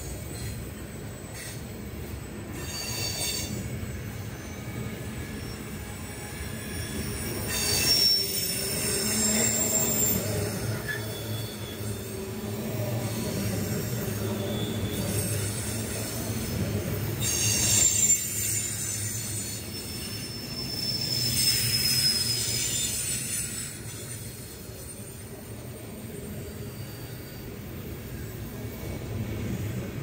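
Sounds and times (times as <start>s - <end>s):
train wheels rumbling on rail: 0.0s - 30.0s
high thin wheel squeal: 0.3s - 28.4s.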